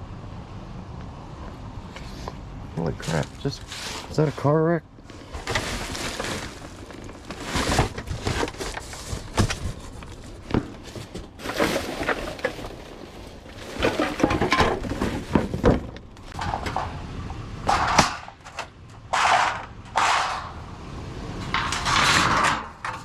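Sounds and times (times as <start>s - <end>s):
debris rustling: 1.5s - 23.0s
debris clattering in a dumpster: 1.8s - 23.0s.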